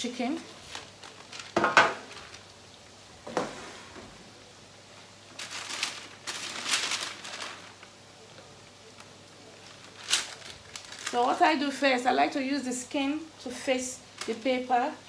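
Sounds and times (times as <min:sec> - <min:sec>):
baking paper rustling: 0:00.0 - 0:04.2, 0:05.2 - 0:12.6, 0:13.5 - 0:15.0.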